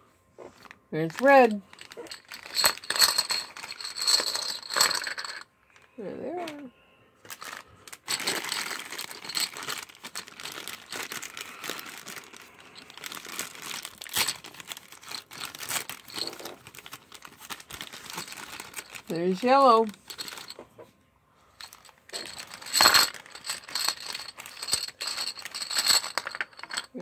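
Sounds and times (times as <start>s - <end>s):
plastic bag crinkling: 0.6s - 5.4s, 7.3s - 20.6s, 21.6s - 27.0s
plastic checkers clattering: 1.0s - 5.4s, 7.3s - 20.6s, 21.6s - 27.0s.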